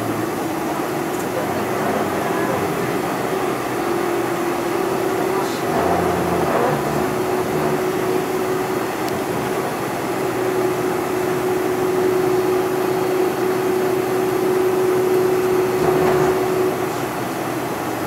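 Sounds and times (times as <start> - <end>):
jet engines humming in cabin: 0.0 - 18.0.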